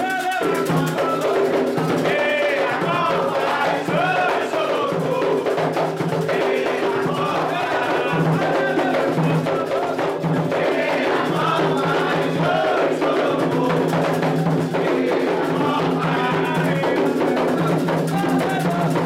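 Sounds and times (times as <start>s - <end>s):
hand drums playing rhythm: 0.0s - 19.0s
people singing: 0.0s - 19.0s.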